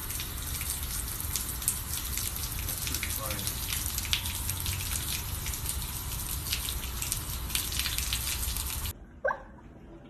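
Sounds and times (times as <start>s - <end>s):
hose water splashing on concrete: 0.0s - 8.9s.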